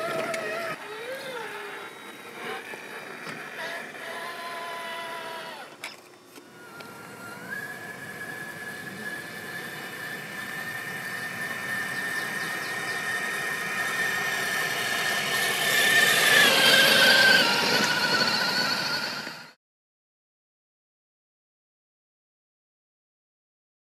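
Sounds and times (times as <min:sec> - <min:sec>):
electric motor and gears whining: 0:00.0 - 0:19.6.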